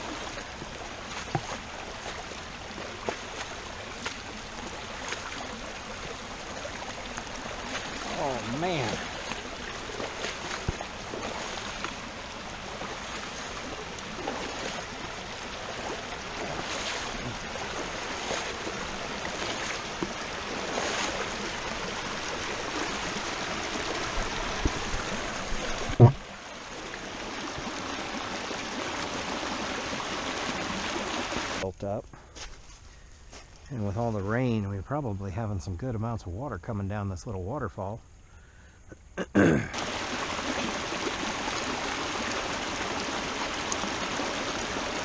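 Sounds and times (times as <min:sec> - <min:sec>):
splashes of wading: 0:00.0 - 0:31.6, 0:39.7 - 0:45.0
creek water rushing: 0:00.0 - 0:32.5, 0:39.4 - 0:45.0.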